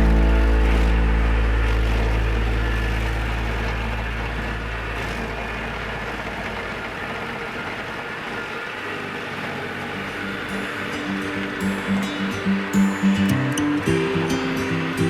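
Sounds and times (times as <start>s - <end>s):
stump grinder engine rumbling: 0.0s - 15.0s.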